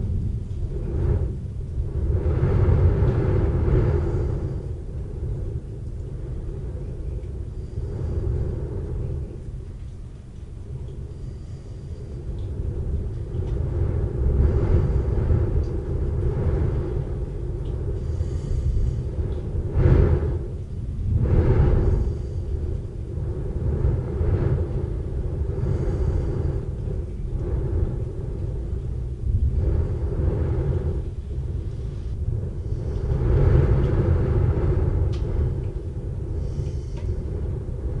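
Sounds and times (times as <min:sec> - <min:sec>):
thunder rumbling: 0:00.0 - 0:38.0.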